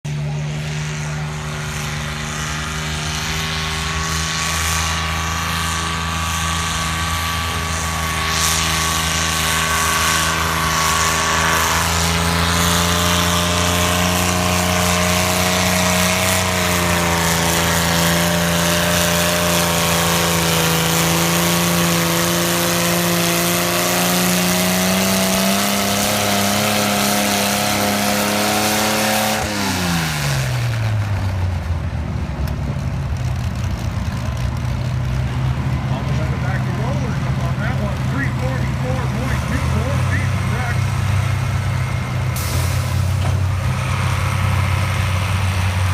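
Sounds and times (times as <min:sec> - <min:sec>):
tractor engine under load: 0:03.9 - 0:45.9.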